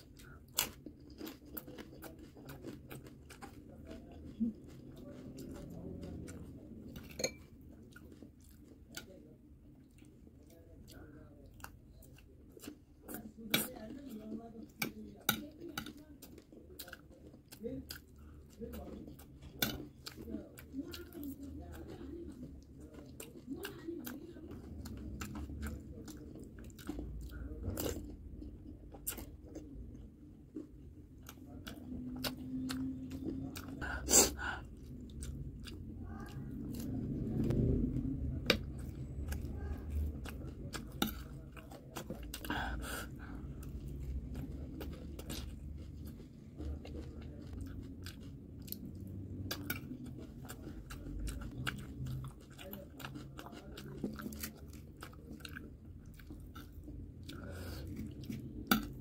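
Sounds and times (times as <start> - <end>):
chewing and crunching crisp food: 0.0 - 59.0.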